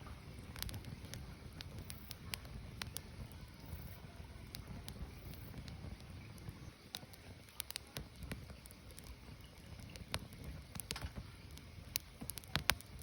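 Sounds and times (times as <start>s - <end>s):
firewood crackling and popping: 0.0s - 13.0s
low rumble of flames: 0.0s - 13.0s.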